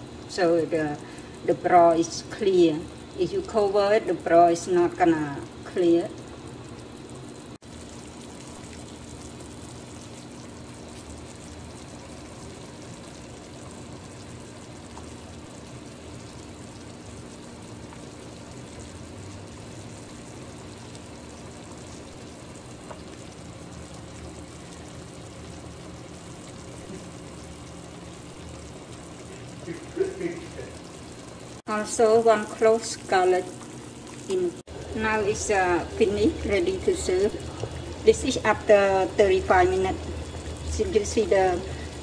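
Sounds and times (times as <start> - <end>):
broth boiling in a pot: 0.0 - 42.0.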